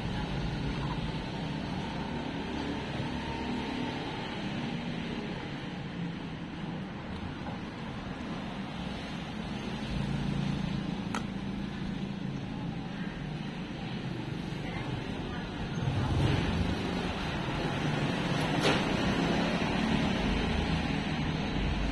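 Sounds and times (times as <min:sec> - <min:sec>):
street background noise: 0:00.0 - 0:21.9.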